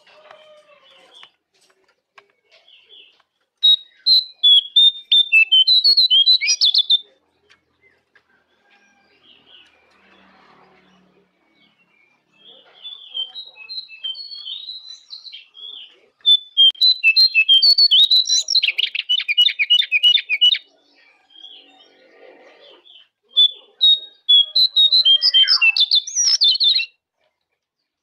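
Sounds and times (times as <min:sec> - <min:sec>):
songbird singing: 0:02.2 - 0:28.0.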